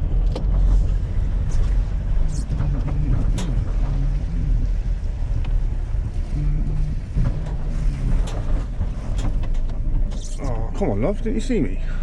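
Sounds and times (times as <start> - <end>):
road noise rumble: 0.0 - 12.0
vehicle engine hum: 0.0 - 12.0.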